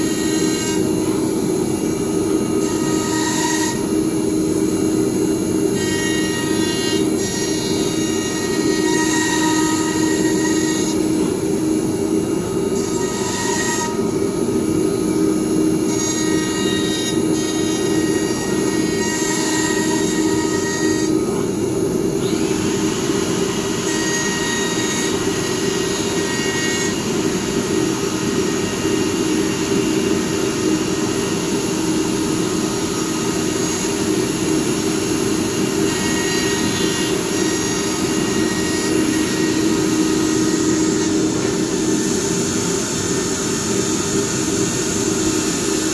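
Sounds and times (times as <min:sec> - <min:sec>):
high spindle whine: 0:00.0 - 0:45.9
router mechanical drone: 0:00.0 - 0:45.9.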